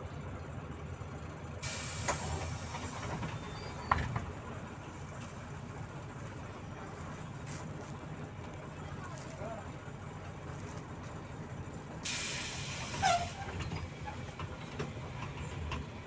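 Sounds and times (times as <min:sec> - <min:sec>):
bus engine and road drone: 0:00.0 - 0:16.0.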